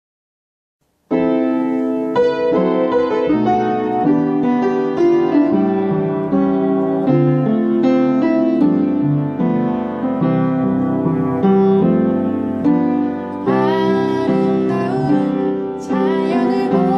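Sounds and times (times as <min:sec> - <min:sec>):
piano melody over chords: 0:00.8 - 0:16.9.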